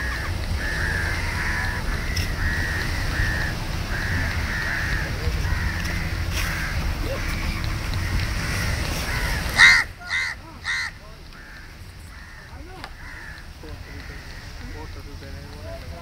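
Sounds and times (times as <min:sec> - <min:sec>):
crows cawing: 0:00.0 - 0:15.6
low rumble of surf: 0:00.0 - 0:16.0.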